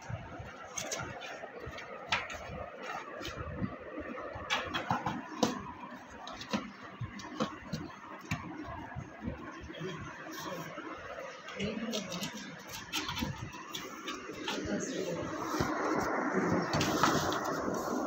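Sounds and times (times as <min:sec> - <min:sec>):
cats scratching cardboard: 0:00.4 - 0:18.0.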